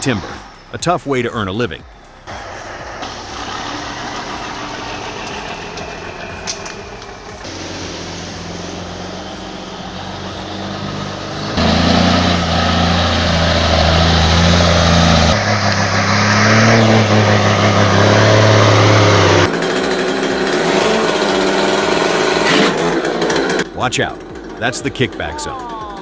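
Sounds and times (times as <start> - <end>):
truck engine running: 0.0 - 25.3.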